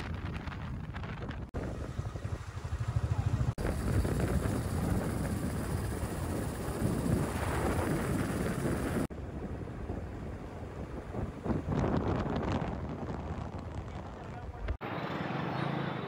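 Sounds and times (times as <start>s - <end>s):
wind buffeting microphone: 0.0s - 14.8s
motorcycle engine rumbling: 0.0s - 15.0s.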